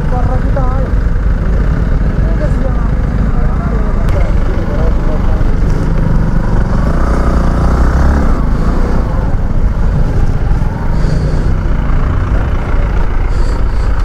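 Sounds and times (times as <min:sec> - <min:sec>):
car and truck engines idling: 0:00.0 - 0:14.0
motorcycle engine running at low speed: 0:00.0 - 0:14.0.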